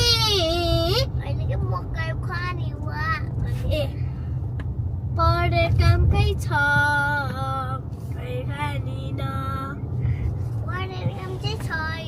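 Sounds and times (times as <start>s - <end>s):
car rumbling on road: 0.0s - 12.0s.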